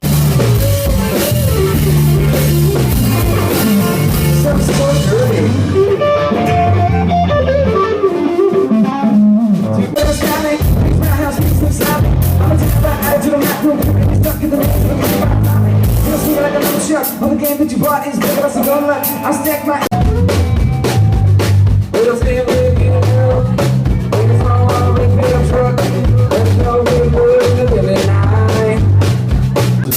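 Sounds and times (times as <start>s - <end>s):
drum kit: 0.0s - 29.9s
live rock-pop band playing: 0.0s - 29.9s.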